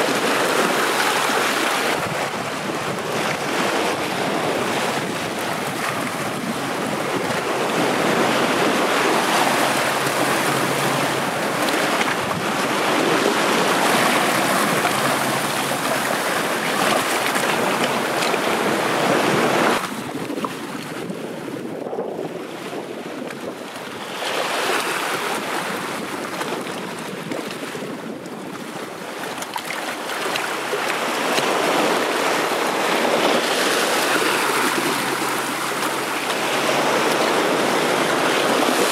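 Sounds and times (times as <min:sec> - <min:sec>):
sea water splashing over rocks: 0:00.0 - 0:38.9.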